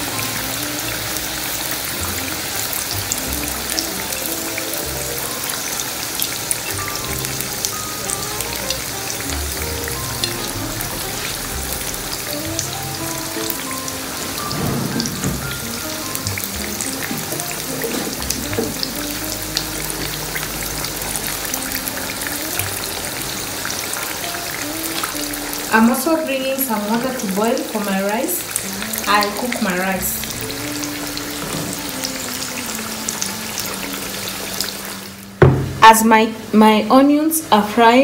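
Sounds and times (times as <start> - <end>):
onions sizzling in frying pan: 0.0 - 36.1
background music: 0.0 - 38.0.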